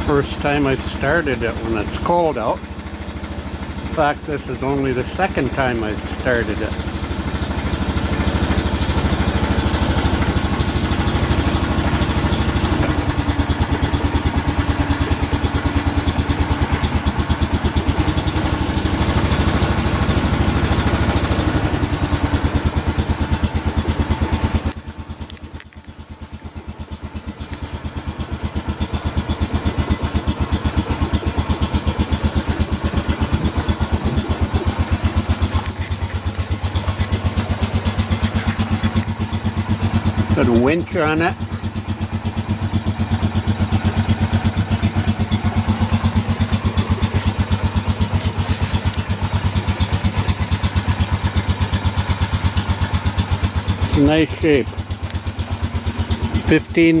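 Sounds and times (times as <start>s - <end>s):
atv engine idling: 0.0s - 57.0s.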